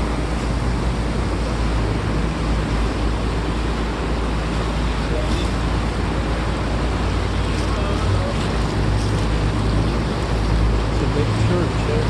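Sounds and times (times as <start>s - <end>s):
boat motor rumbling: 0.0s - 12.0s
water rushing past hull: 0.0s - 12.0s.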